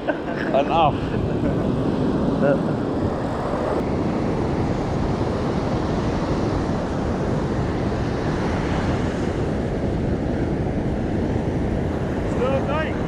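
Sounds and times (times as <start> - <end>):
surf breaking on a beach: 0.0 - 13.0
wind buffeting the microphone: 0.0 - 13.0.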